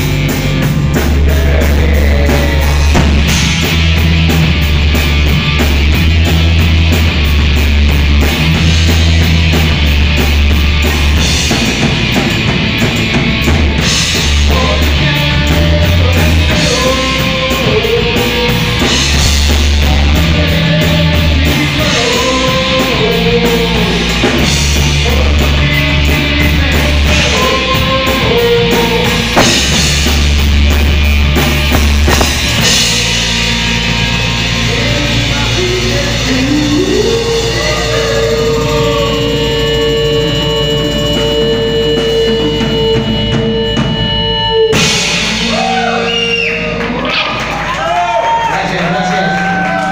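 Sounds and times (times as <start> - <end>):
pulsing bass notes: 0.0 - 48.3
drum kit: 0.0 - 48.5
live rock band: 0.0 - 49.9.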